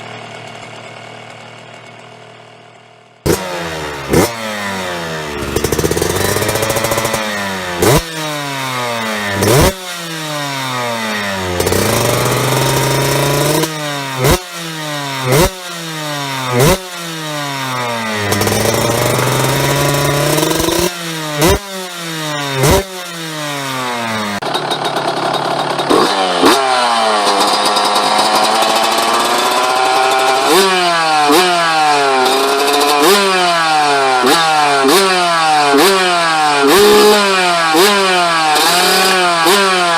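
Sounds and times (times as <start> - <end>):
motorbike idling: 0.0 - 39.9
two-stroke engine revving: 0.0 - 39.9.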